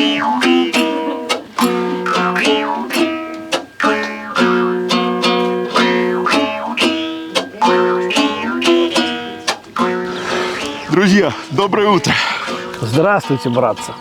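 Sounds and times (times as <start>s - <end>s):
strummed dombra music: 0.0s - 14.0s.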